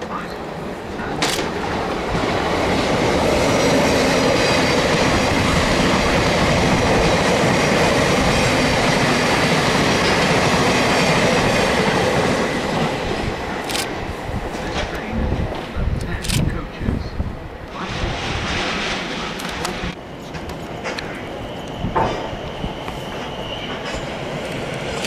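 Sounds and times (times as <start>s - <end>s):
train wheel and rail noise: 0.0s - 25.0s.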